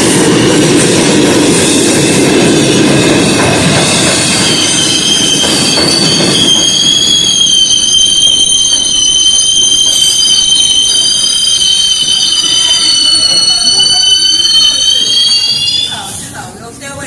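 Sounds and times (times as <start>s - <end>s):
train wheels squealing on rail: 0.0s - 16.6s
train rumble: 0.0s - 17.0s.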